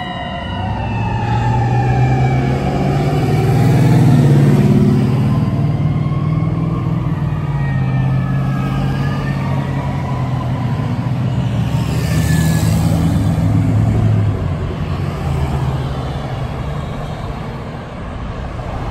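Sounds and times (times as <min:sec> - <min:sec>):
road traffic passing: 0:00.0 - 0:18.9.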